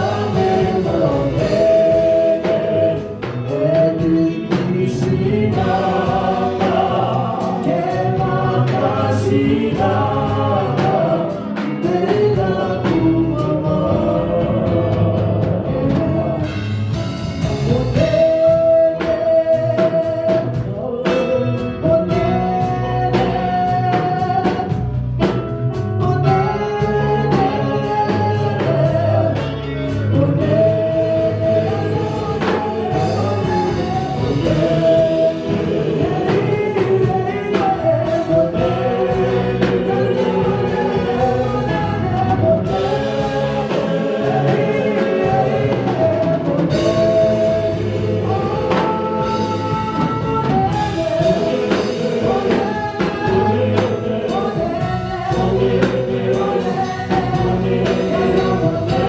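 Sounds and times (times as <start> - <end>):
voices singing together: 0.0 - 25.4, 26.0 - 59.0
band with drums and bass: 0.0 - 59.0.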